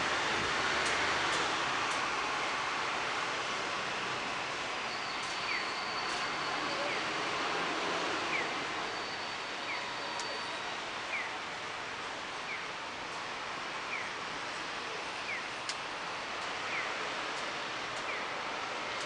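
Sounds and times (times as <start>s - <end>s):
town background noise at night: 0.0s - 19.0s.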